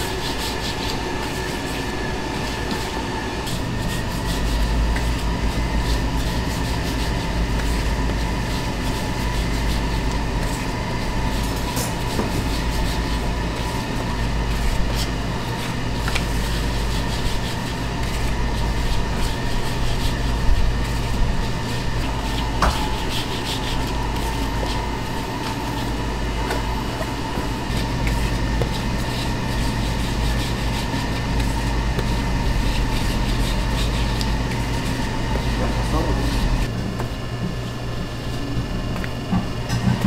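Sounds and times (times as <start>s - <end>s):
hands rubbing dough on board: 0.0s - 36.7s
steady low hum: 0.0s - 40.0s.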